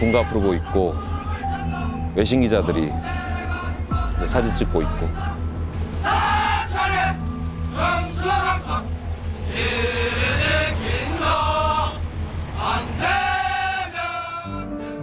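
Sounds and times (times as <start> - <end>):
men singing in unison: 0.0 - 14.8.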